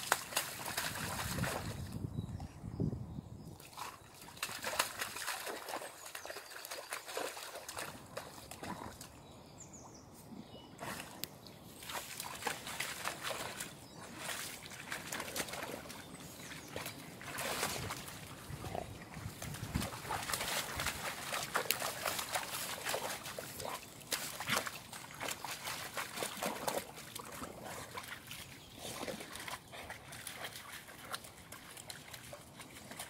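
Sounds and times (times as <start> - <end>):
dog splashing through water: 0.0 - 1.9, 3.6 - 9.1, 11.8 - 33.0.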